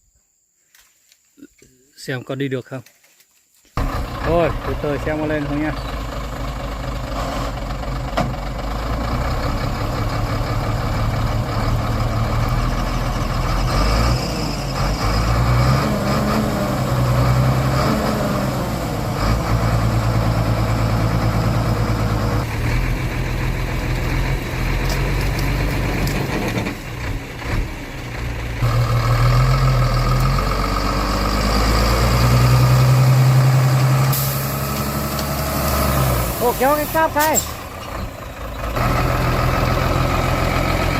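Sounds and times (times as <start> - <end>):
heavy truck engine revving: 3.8 - 40.9.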